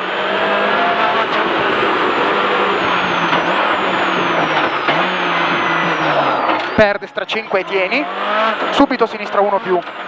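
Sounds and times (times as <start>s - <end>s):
loud tyre and road noise: 0.0s - 10.0s
rally car engine accelerating: 0.0s - 10.0s.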